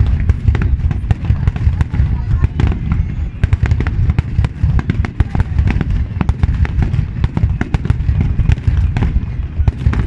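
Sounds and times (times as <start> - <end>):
fireworks bangs and crackles: 0.0 - 10.0
low booming rumble: 0.0 - 10.0.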